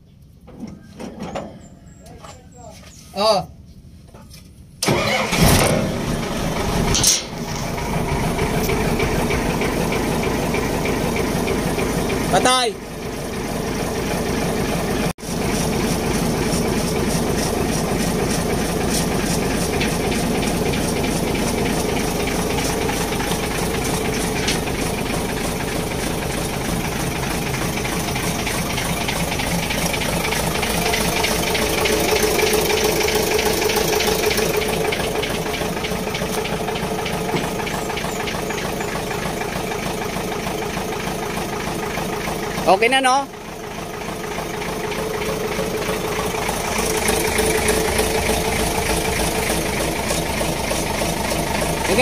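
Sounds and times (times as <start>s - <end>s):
diesel truck engine idling: 4.8s - 52.0s.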